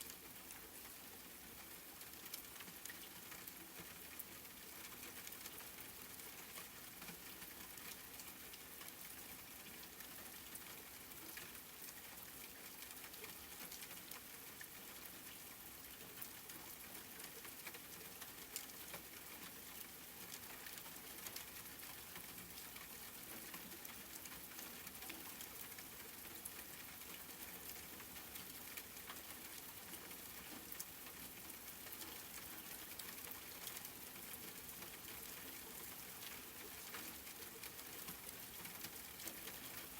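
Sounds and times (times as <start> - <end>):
soft rainfall: 0.0 - 39.9.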